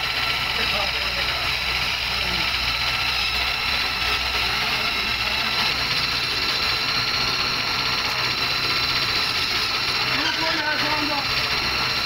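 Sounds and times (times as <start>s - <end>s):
wire brush wheel humming and hissing: 0.0s - 12.0s.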